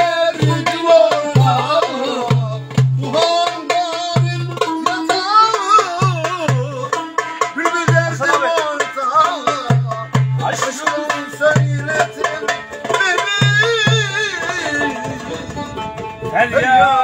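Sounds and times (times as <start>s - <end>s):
hand drum beating: 0.0s - 16.4s
ornamented melody line: 0.0s - 17.0s.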